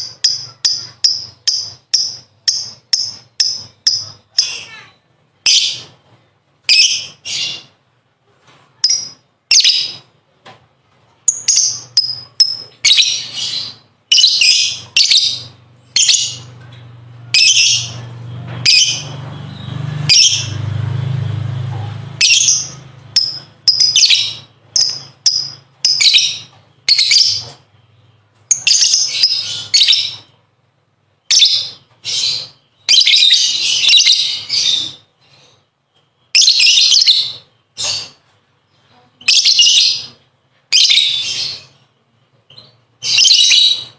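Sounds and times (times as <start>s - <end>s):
bird harsh chattering song: 0.0s - 6.0s, 6.7s - 7.8s, 11.3s - 16.6s, 17.3s - 20.7s, 21.8s - 30.4s, 31.2s - 35.7s, 36.3s - 41.9s, 42.5s - 43.9s.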